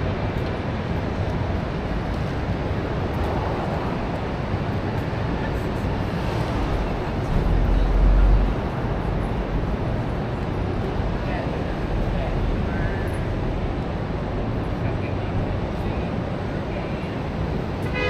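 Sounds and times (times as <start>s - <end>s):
traffic: 0.0s - 18.0s.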